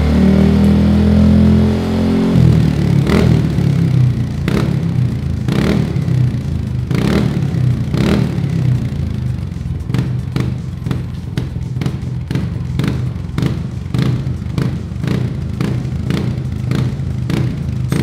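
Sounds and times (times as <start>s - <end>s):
scooter engine revving and idling: 0.0s - 18.0s.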